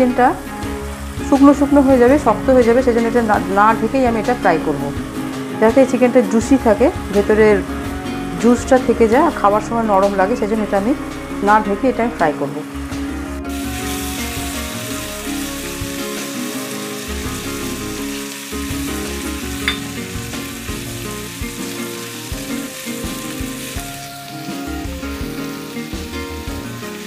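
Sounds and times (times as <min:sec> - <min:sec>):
chicken sizzling in a pan: 0:00.0 - 0:12.0, 0:12.6 - 0:27.0.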